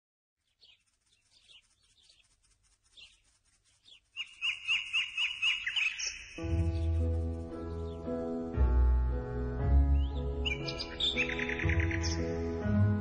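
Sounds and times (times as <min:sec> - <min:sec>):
small birds chirping: 0:00.4 - 0:08.5, 0:09.9 - 0:12.6.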